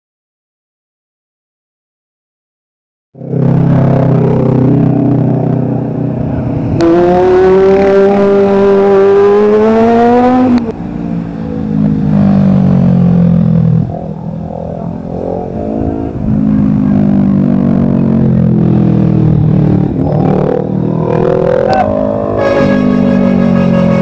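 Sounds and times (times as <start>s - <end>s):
engine accelerating: 3.2s - 24.0s
vehicle engines passing: 3.2s - 24.0s.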